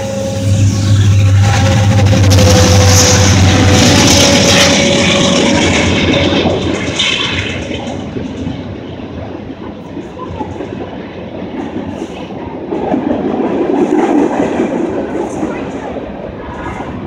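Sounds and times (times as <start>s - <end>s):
freight train wheels clacking: 0.0s - 17.0s.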